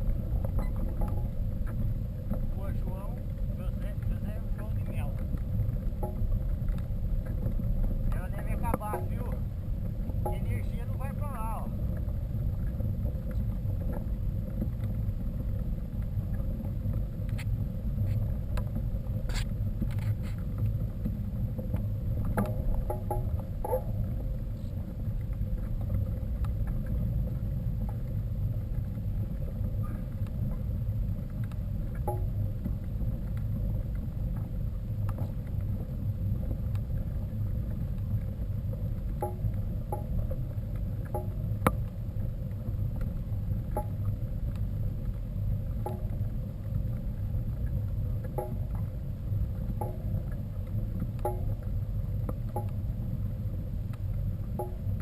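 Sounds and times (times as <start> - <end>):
bike tyre noise: 0.0 - 53.2.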